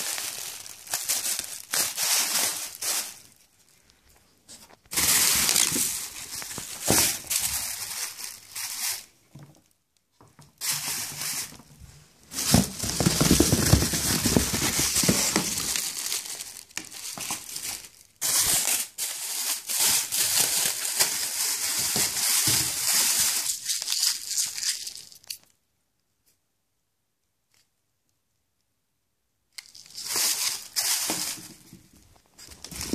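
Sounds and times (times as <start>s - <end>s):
plastic bags crinkling: 0.0s - 9.7s, 10.6s - 25.5s, 29.6s - 32.9s.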